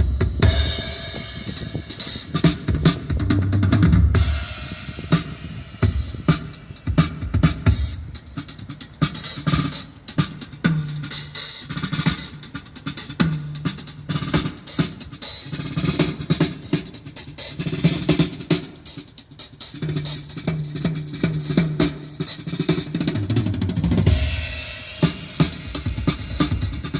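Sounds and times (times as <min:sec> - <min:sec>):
drum-heavy music with bass line: 0:00.0 - 0:26.9.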